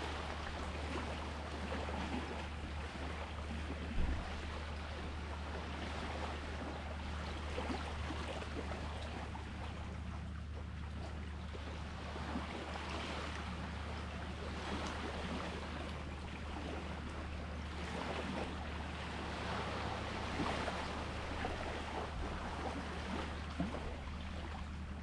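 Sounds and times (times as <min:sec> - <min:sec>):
small waves washing onto shore: 0:00.0 - 0:25.0
steady low hum: 0:00.0 - 0:25.0.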